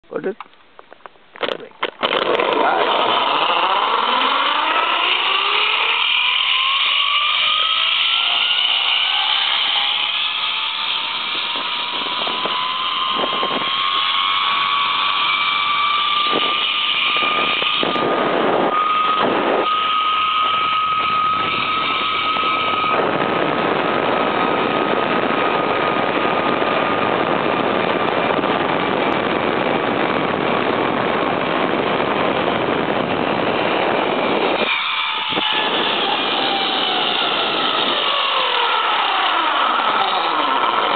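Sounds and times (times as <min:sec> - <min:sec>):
wind rushing on microphone: 0:01.4 - 0:40.9
zipline pulleys whining on cable: 0:01.8 - 0:40.9.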